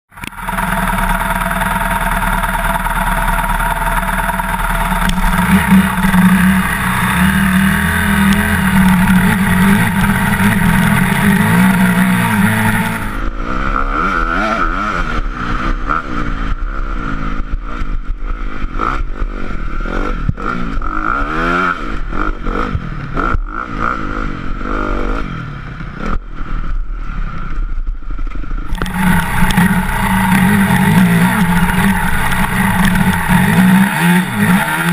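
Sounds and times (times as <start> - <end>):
motocross bike engine revving: 0.1 - 26.2, 28.7 - 34.9.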